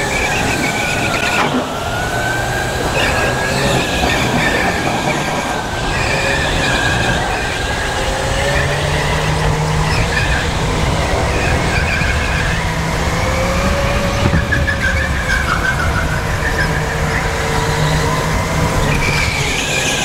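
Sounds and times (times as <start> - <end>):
go-kart engine whining: 0.0 - 20.0
tyres squealing: 0.0 - 20.0.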